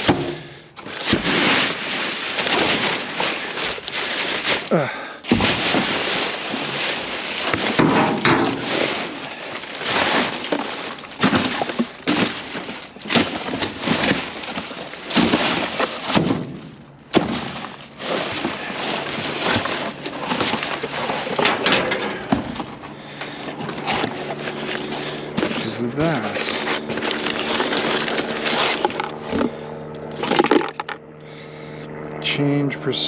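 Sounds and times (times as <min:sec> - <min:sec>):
debris clattering and knocking: 0:00.0 - 0:29.5, 0:30.1 - 0:31.0.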